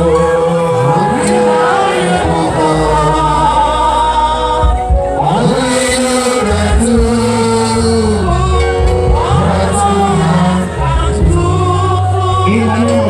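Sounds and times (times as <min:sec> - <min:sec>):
instrumental accompaniment with bass: 0:00.0 - 0:13.0
voices singing gospel song: 0:00.0 - 0:13.0.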